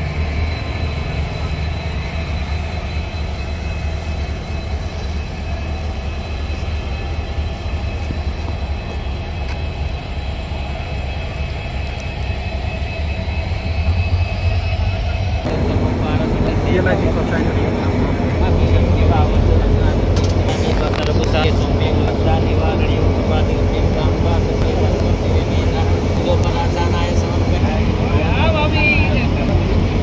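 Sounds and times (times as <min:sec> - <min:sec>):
electric locomotive humming: 0:00.0 - 0:30.0.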